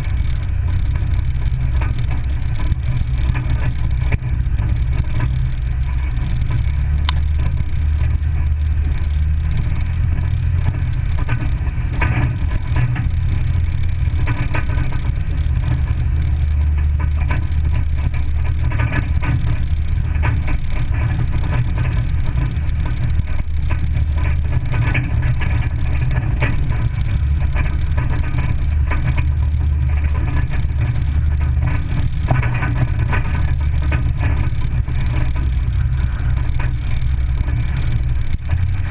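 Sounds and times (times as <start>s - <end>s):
engine and road rumble: 0.0s - 38.9s
gravel clicks and clatters: 0.0s - 38.9s.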